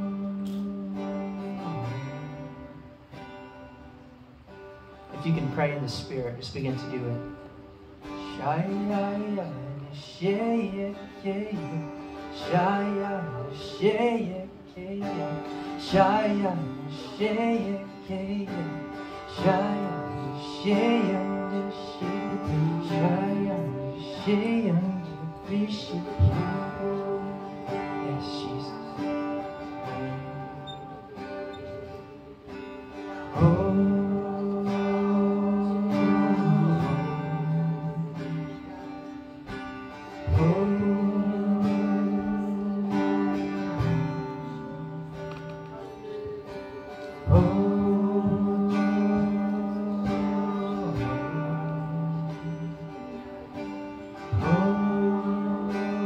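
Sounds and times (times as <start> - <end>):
acoustic guitar: 0.0 - 56.0
person singing wordlessly: 8.2 - 39.4, 40.1 - 56.0.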